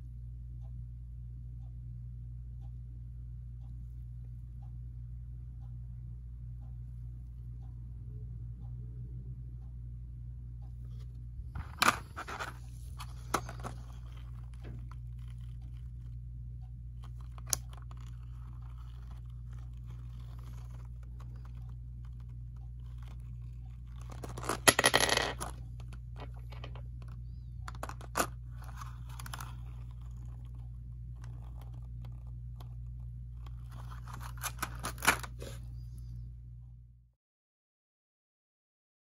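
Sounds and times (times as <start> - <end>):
steady low hum: 0.0 - 37.1.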